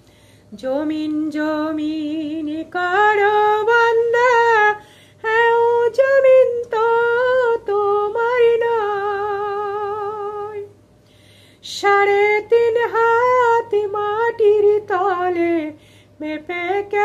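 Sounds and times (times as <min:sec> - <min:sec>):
woman singing unaccompanied: 0:00.5 - 0:10.8, 0:11.6 - 0:17.0.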